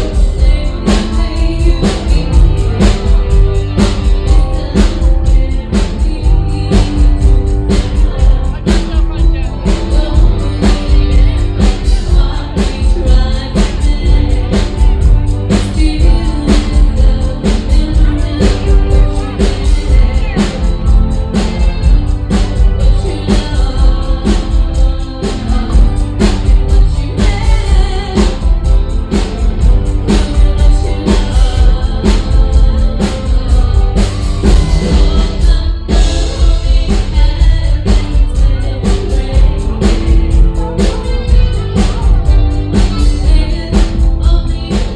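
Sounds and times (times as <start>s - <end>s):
band music with singing: 0.0s - 44.9s
steady drum beat: 0.0s - 44.9s.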